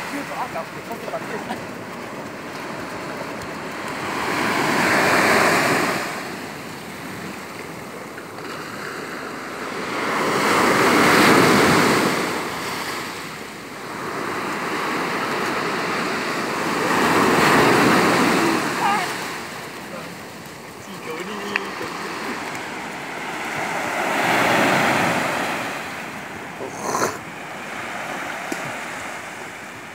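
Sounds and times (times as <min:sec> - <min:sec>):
waves breaking on a beach: 0:00.0 - 0:29.9.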